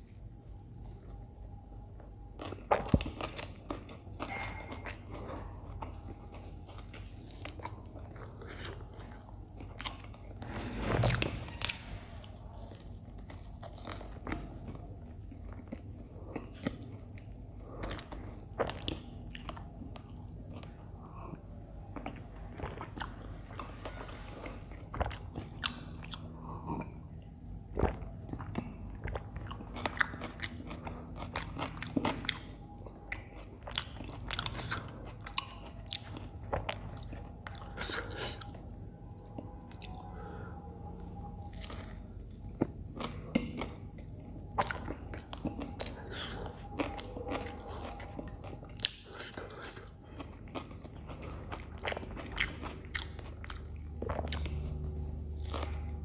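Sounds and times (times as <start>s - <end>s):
person chewing crunchy sandwich: 0.0s - 56.0s.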